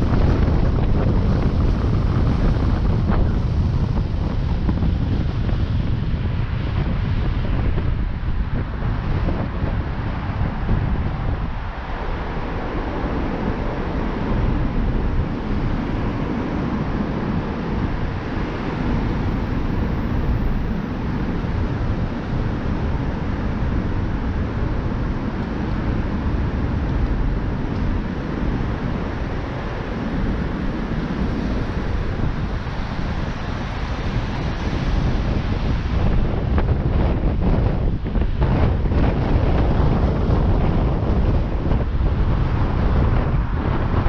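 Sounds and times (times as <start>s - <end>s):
slow-moving traffic hum: 0.0s - 44.0s
wind rumbling on microphone: 0.0s - 44.0s.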